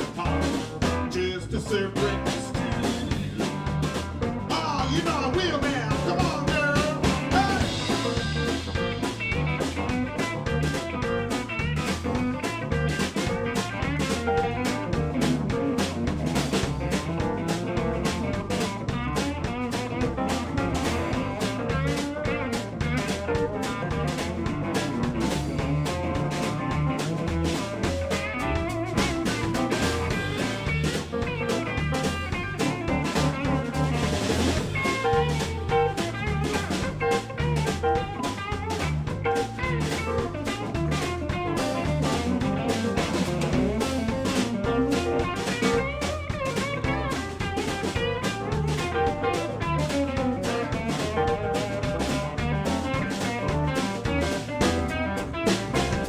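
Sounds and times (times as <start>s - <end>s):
bass guitar: 0.0s - 56.0s
drum kit beat: 0.0s - 56.0s
electric guitar: 0.0s - 56.0s
keyboards: 0.0s - 56.0s.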